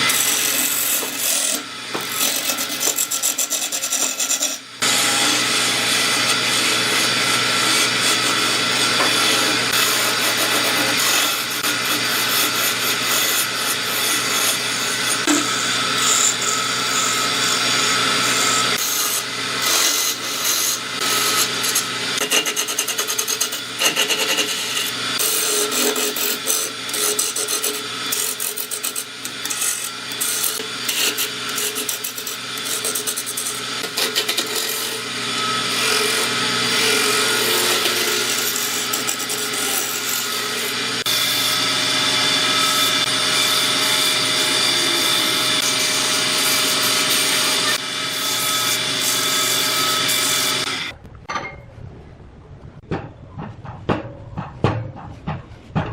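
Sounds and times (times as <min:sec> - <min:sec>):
power tool working wood: 0:00.0 - 0:51.0.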